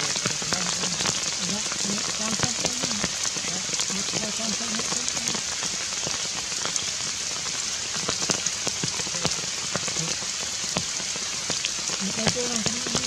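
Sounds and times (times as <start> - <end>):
heavy rain on leaves: 0.0 - 13.0.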